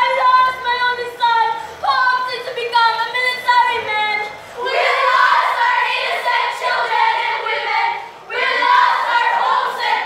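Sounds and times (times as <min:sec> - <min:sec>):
young voices singing together: 0:00.0 - 0:10.0.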